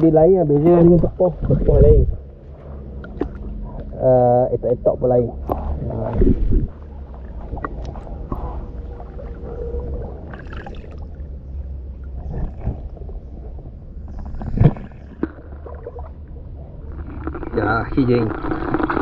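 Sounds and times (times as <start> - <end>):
steady low rumble: 0.0 - 19.0
river water sloshing and gurgling: 0.4 - 4.0, 5.4 - 19.0.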